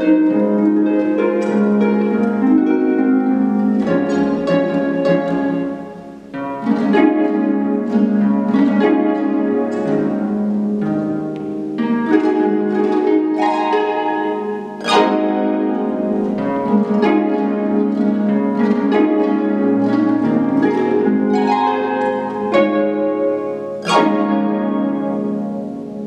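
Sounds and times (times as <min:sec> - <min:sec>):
harp plucked notes and chords: 0:00.0 - 0:26.0.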